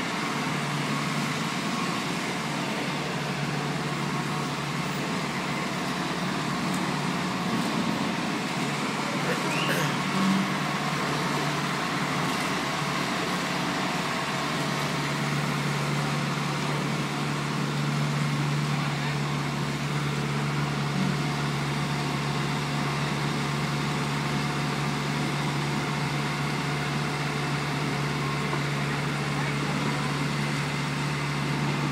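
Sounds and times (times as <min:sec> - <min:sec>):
paving truck engine running: 0:00.0 - 0:31.9.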